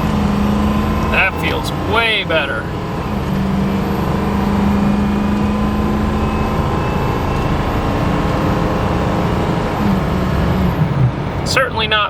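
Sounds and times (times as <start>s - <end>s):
diesel truck engine running: 0.0s - 12.0s
tyre and road noise: 0.0s - 12.0s.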